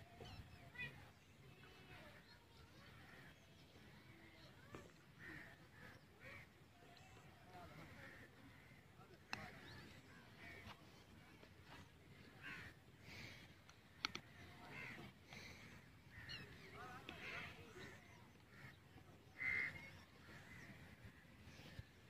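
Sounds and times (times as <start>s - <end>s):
distant bird calls: 0.2s - 22.0s.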